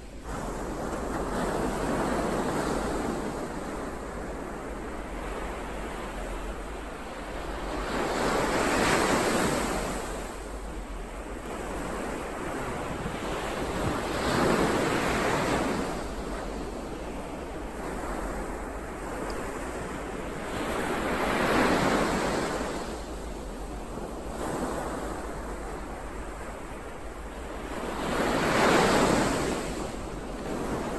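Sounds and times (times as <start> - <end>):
ocean waves breaking on shore: 0.0 - 30.9.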